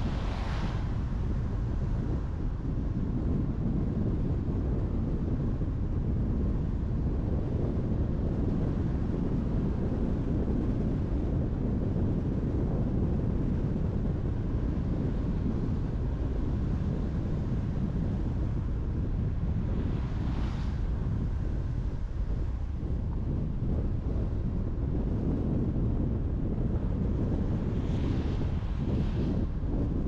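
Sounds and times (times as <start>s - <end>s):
car road and wind noise: 0.0s - 30.0s.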